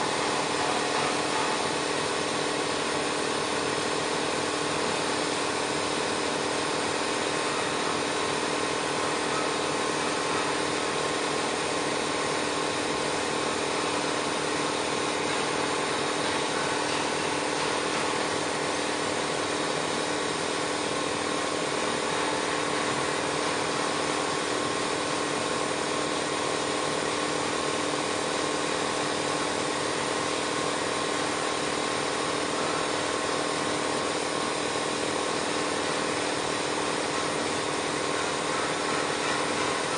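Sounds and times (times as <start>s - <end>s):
welding machine humming and hissing: 0.0s - 39.9s.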